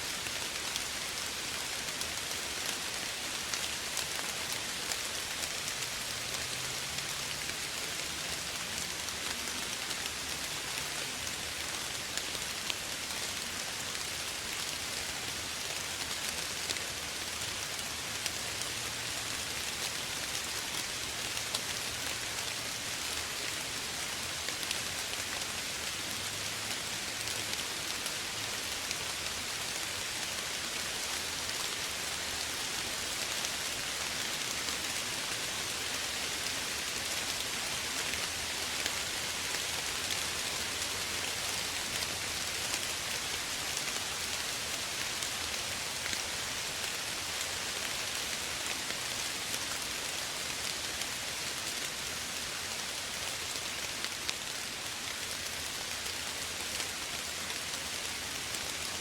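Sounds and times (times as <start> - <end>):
soft rain falling: 0.0 - 59.0.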